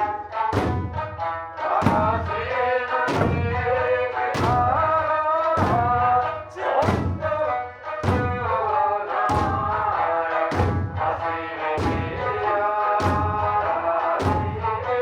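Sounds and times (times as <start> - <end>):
big drum beats: 0.0 - 15.0
plucked lute accompaniment: 0.0 - 15.0.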